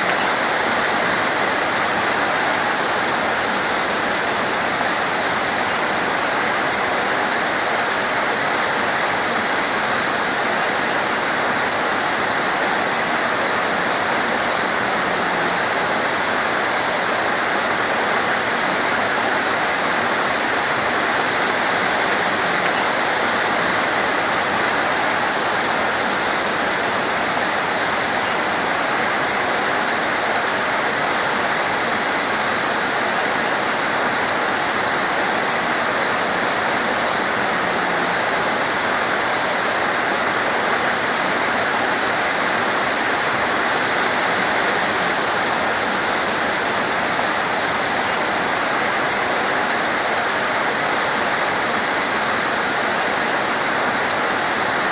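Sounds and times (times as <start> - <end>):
torrential rain: 0.0 - 54.9.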